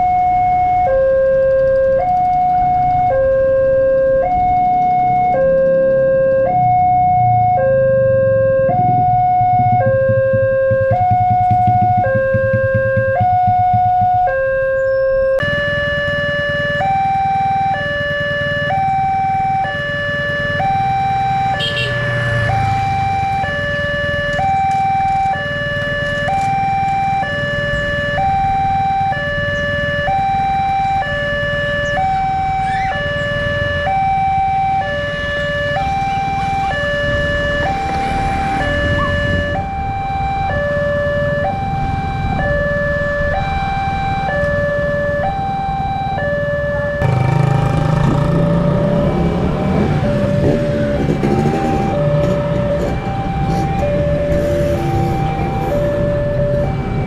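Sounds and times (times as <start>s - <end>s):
level crossing two-tone alarm: 0.0s - 57.0s.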